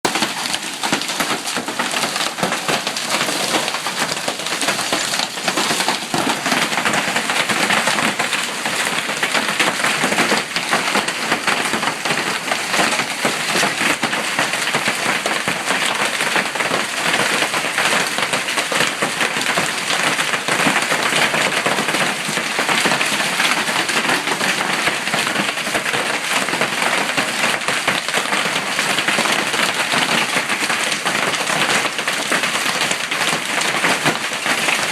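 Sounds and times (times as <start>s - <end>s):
hail clattering: 0.0s - 34.9s
heavy rain: 0.0s - 34.9s.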